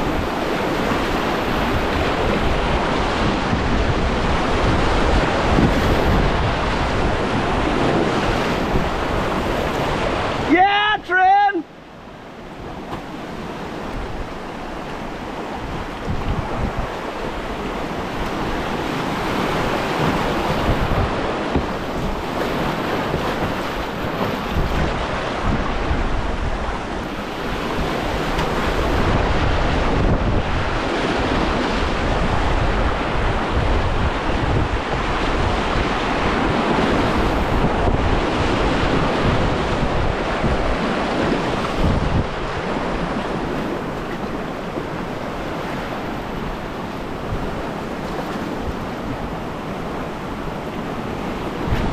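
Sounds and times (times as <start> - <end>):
wind noise on microphone: 0.0 - 10.5, 12.6 - 51.9
whitewater rushing over rocks: 0.0 - 51.9.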